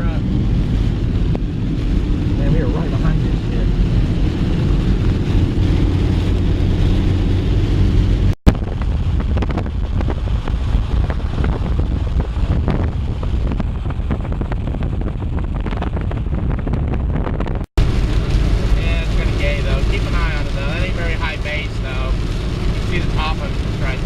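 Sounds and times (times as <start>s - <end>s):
truck road and engine rumble: 0.0s - 24.0s
wind buffeting: 0.0s - 24.0s.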